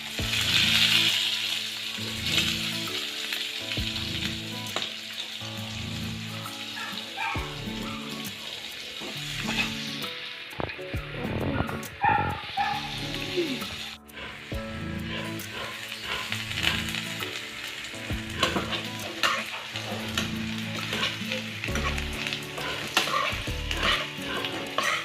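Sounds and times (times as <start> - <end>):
potatoes sizzling in a pan: 0.0 - 25.0.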